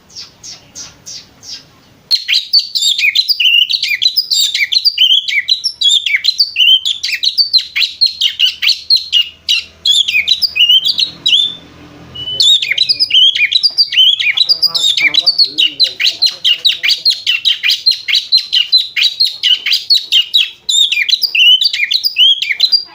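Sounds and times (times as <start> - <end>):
bird singing high chirps: 0.0 - 22.9.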